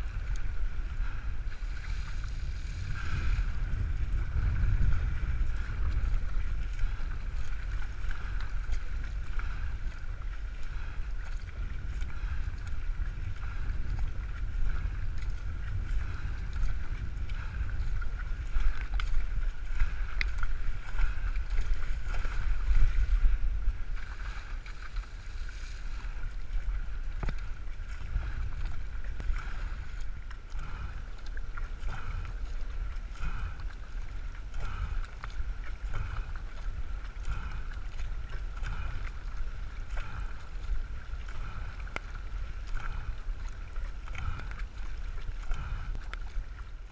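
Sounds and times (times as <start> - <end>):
water splashing along hull: 0.0 - 46.9
wind buffeting microphone: 0.0 - 46.9.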